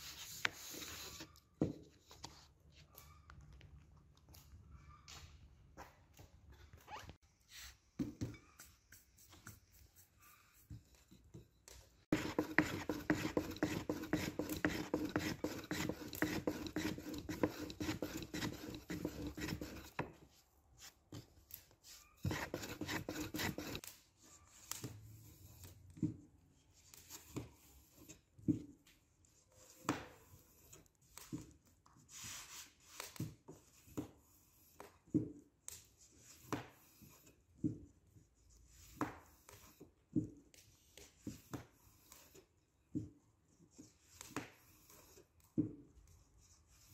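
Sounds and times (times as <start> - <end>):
rolling pin rolling dough: 7.4 - 46.9.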